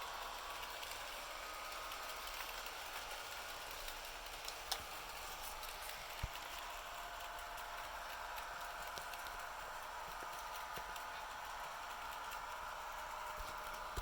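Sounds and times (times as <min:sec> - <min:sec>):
model train motor whine: 0:00.0 - 0:14.0
wheels clicking on rails: 0:00.0 - 0:14.0.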